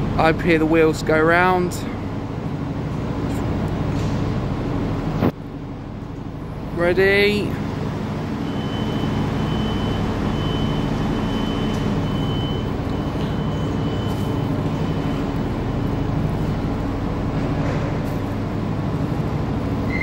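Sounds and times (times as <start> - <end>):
diesel railcar engine drone: 0.0 - 20.0.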